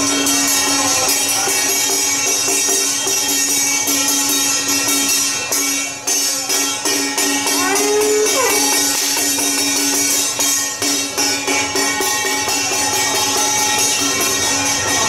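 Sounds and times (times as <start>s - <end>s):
cymbals and gongs clashing: 0.0s - 15.0s.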